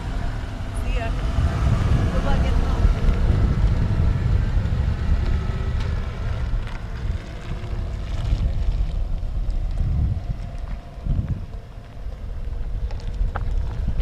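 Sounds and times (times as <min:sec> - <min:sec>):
road and engine rumble: 0:00.0 - 0:14.0
wind buffeting microphone: 0:00.0 - 0:14.0.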